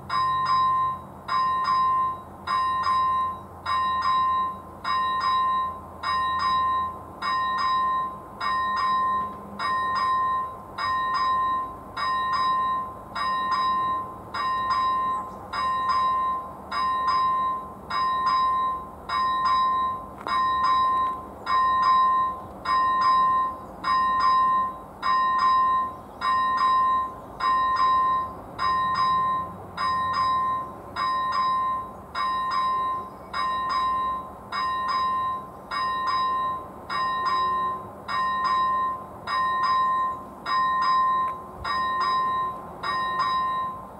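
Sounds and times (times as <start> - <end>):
level crossing bell dinging: 0.0 - 43.9.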